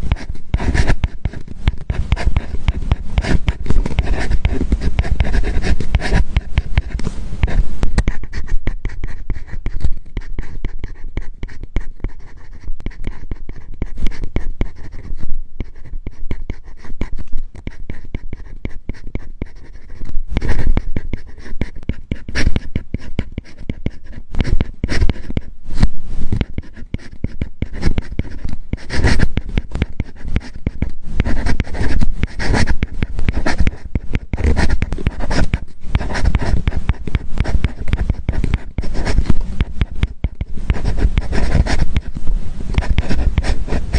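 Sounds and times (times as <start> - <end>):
stylus scratching on tablet screen: 0.0 - 43.9.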